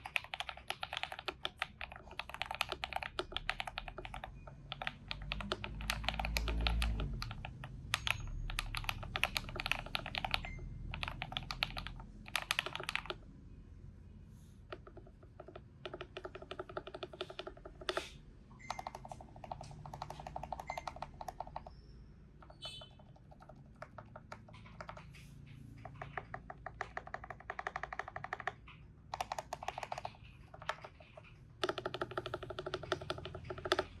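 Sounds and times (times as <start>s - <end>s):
mechanical keyboard typing: 0.0s - 13.3s, 14.6s - 34.0s.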